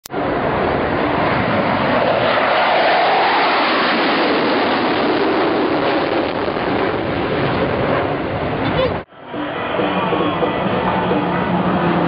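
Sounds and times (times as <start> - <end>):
jet aircraft passing overhead: 0.1 - 12.0.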